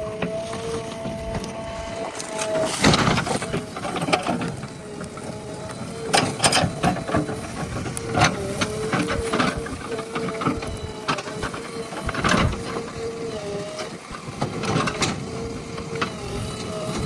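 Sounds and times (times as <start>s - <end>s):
backhoe engine and hydraulics: 0.0s - 17.0s.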